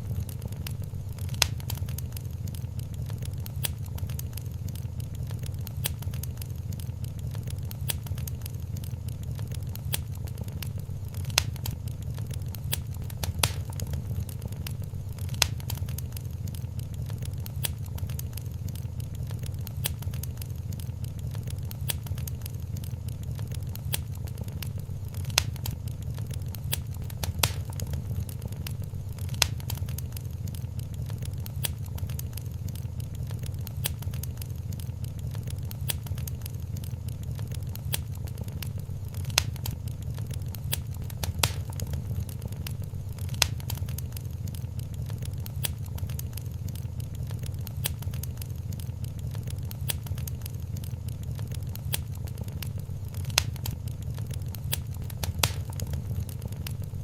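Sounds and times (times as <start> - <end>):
loud fire pops: 0.0 - 57.0
low rumble of fire: 0.0 - 57.0
wood fire crackling: 0.0 - 57.0.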